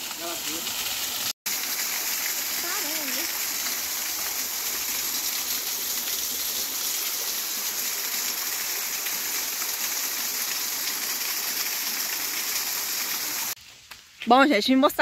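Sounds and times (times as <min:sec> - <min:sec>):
small waterfall splashing: 0:00.0 - 0:14.0.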